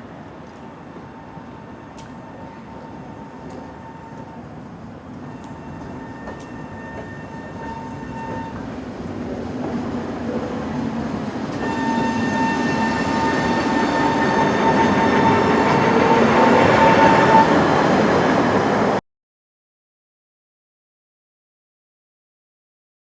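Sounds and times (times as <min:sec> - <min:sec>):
tram high-pitched whine: 0:00.0 - 0:19.0
tram wheels rumbling on rails: 0:00.0 - 0:19.0.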